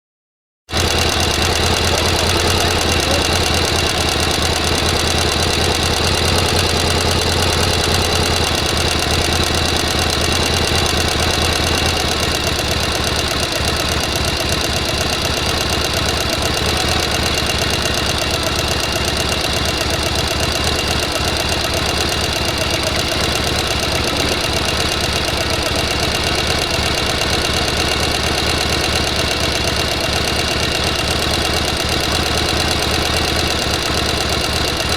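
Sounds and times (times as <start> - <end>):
sewing machine running: 0.7 - 34.9.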